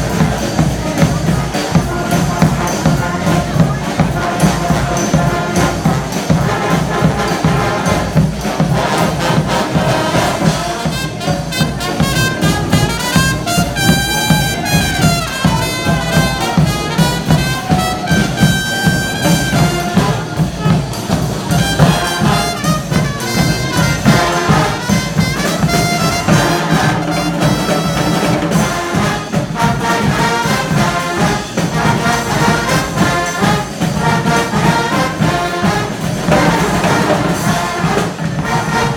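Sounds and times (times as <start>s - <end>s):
brass band playing: 0.0s - 38.9s.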